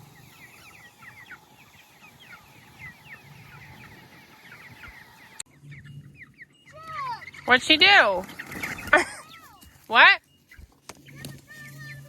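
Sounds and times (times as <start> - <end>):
chickens chirping: 0.0 - 12.0.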